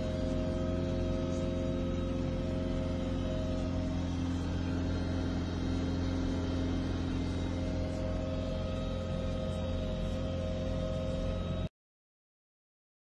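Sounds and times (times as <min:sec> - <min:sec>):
snowblower vehicle engine drone: 0:00.0 - 0:11.7.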